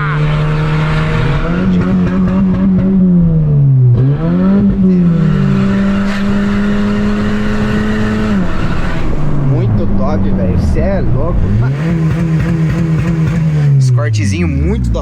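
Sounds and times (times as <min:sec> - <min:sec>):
car engine revving loud: 0:00.0 - 0:15.0.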